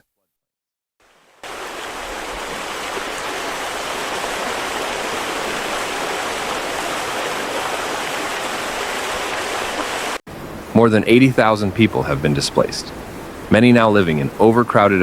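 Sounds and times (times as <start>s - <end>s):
rushing water: 1.0s - 15.0s.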